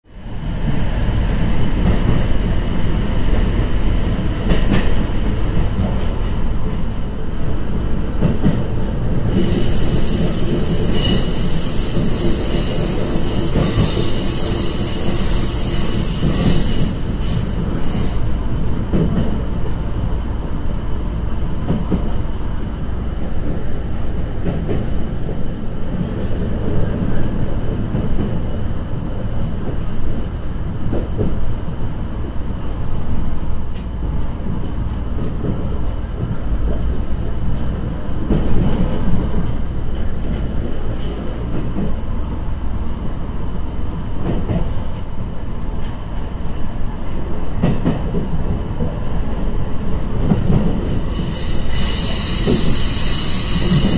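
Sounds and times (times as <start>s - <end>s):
engine and rail rumble: 0.0s - 53.9s.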